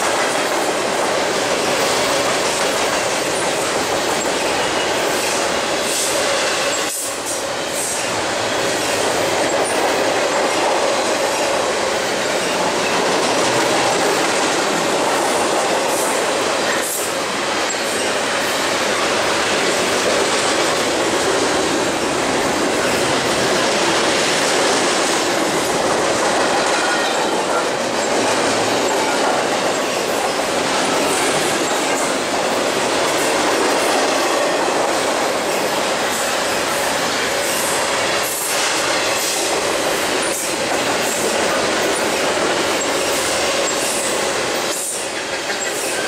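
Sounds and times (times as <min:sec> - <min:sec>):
steel wheels running on rails: 0:00.0 - 0:46.0.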